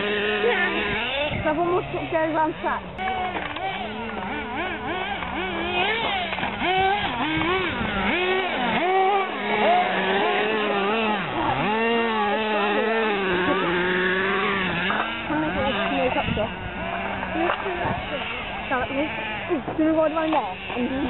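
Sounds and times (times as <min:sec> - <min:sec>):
rc buggy motor revving: 0:00.0 - 0:21.0.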